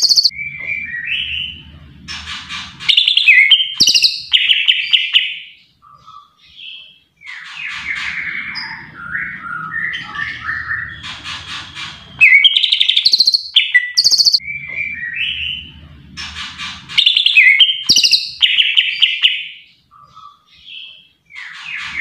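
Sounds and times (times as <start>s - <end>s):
bird singing chirps and trills: 0.0s - 22.0s.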